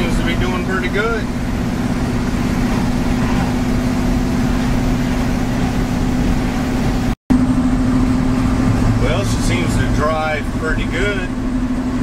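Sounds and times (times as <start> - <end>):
constant hum: 0.0 - 12.0
road noise: 0.0 - 12.0
truck engine running: 0.0 - 12.0.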